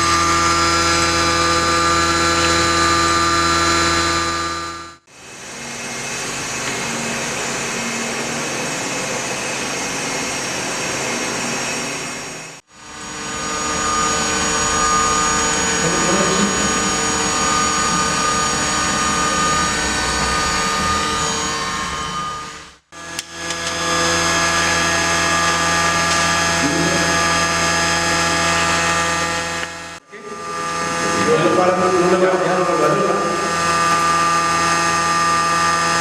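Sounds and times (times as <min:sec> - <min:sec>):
motor spindle whining hum: 0:00.0 - 0:36.0.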